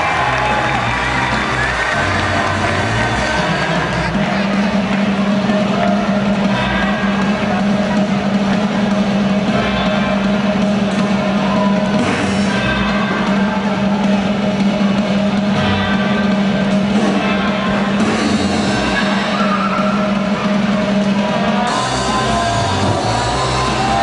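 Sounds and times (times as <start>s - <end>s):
loud music with drums: 0.0s - 24.0s
pulsing bass: 0.0s - 24.0s.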